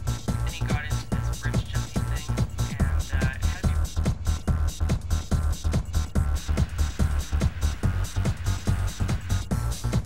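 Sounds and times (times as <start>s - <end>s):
electronic dance music: 0.0s - 10.0s
fast kick-drum beat: 0.0s - 10.0s.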